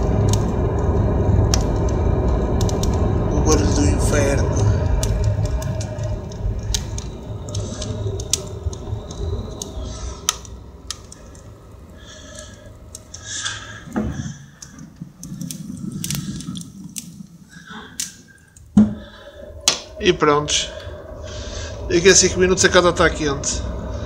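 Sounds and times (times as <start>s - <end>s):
fire crackling and popping: 0.0s - 24.0s
fire draught rumble: 0.0s - 24.0s.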